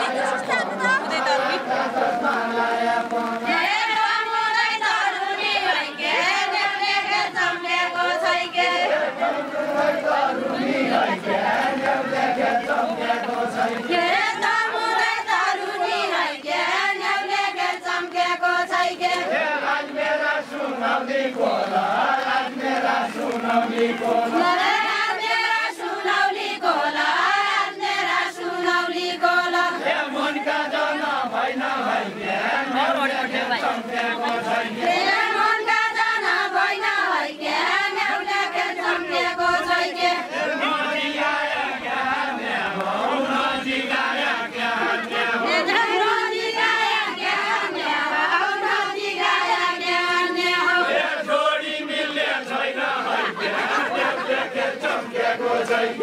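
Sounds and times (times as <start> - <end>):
women singing together: 0.0 - 56.0.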